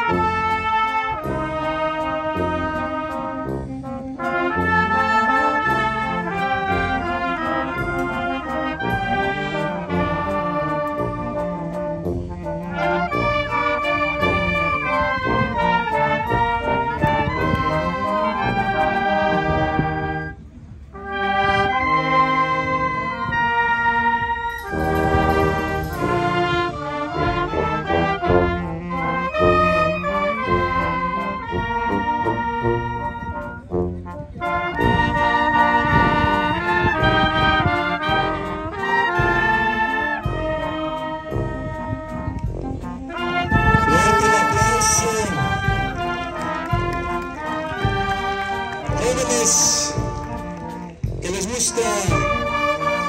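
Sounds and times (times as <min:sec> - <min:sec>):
wind band playing lively tune: 0:00.0 - 0:53.0.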